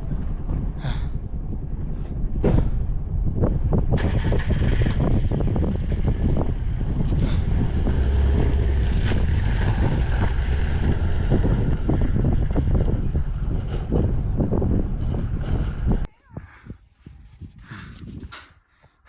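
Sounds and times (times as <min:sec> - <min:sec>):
vehicle rumble: 0:00.0 - 0:18.5
wind buffeting microphone: 0:00.0 - 0:19.0.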